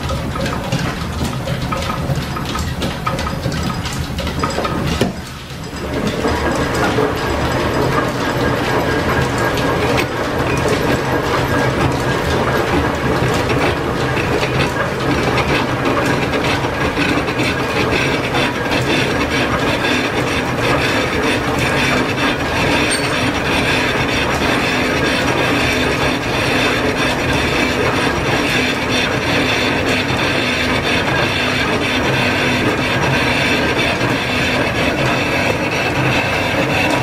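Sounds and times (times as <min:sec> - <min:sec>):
rapid rattling clicks: 0:00.0 - 0:29.8
metal lathe clattering: 0:00.0 - 0:37.0.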